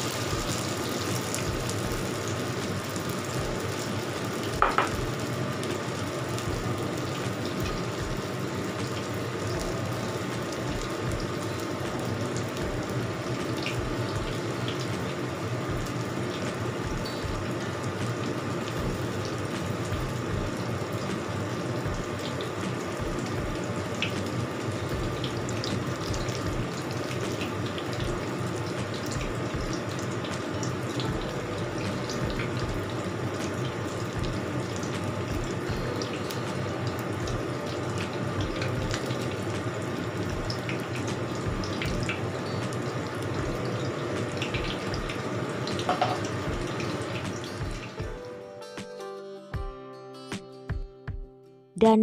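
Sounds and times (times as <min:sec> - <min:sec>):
oil sizzling and popping: 0:00.0 - 0:48.3.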